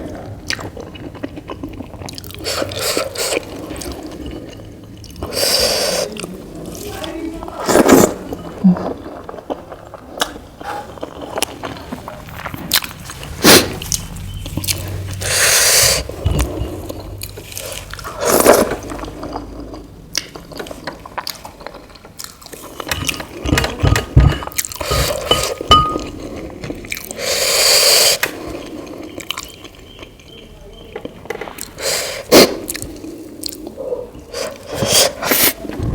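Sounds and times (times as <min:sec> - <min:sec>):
person chewing food: 0:00.0 - 0:06.8, 0:07.6 - 0:30.4, 0:31.0 - 0:35.9.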